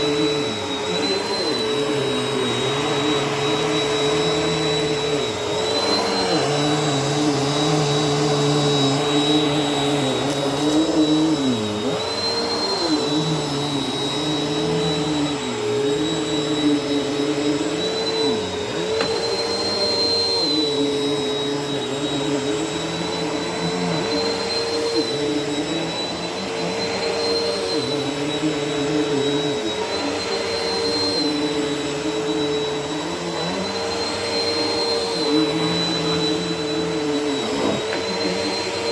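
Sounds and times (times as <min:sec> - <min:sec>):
vacuum cleaner running on carpet: 0:00.0 - 0:38.9.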